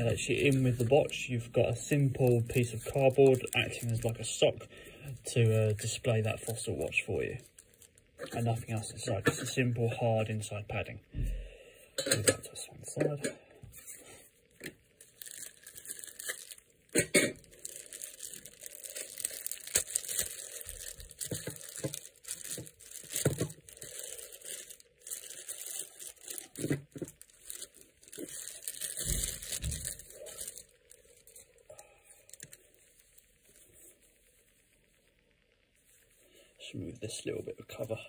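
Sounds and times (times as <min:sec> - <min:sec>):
plastic wrapping crinkling: 0:00.0 - 0:10.9, 0:13.0 - 0:38.0.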